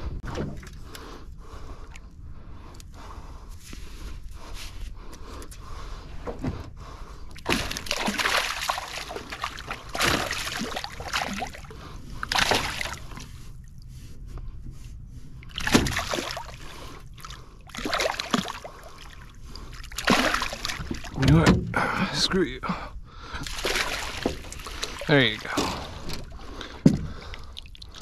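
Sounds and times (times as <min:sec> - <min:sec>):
water splashing and sloshing: 0:00.0 - 0:22.5, 0:23.1 - 0:28.0.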